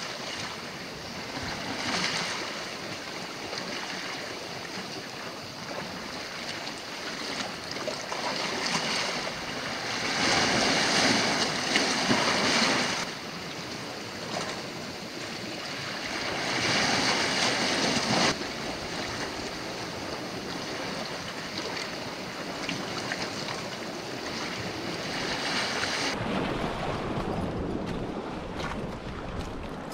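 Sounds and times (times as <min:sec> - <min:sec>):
waves washing onto rocky shore: 0:00.0 - 0:29.9.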